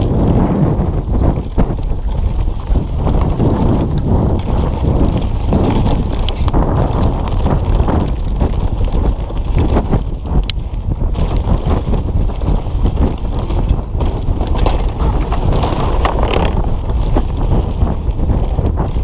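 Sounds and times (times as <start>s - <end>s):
bike rattles and knocks: 0.0s - 19.0s
mountain bike rolling on dirt: 0.0s - 19.0s
wind buffeting microphone: 0.0s - 19.0s.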